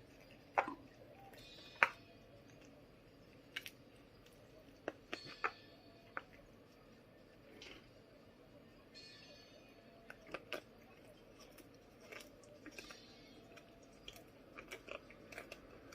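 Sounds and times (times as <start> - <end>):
crunching lettuce being chewed: 0.0 - 8.0, 10.0 - 15.9.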